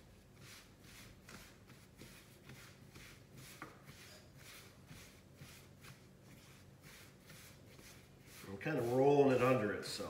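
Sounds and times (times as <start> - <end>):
hands rubbing and patting dough: 0.0 - 10.0.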